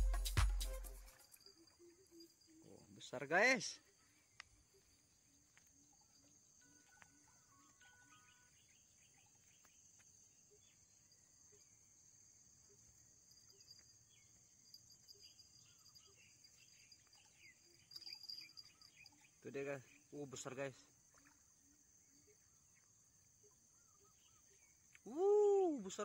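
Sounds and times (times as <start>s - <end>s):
crickets chorus: 1.0s - 26.0s.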